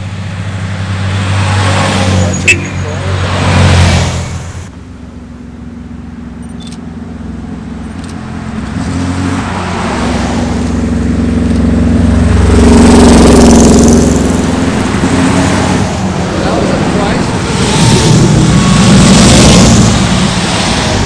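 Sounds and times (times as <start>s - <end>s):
car engine passing: 0.0s - 4.7s, 7.0s - 21.0s.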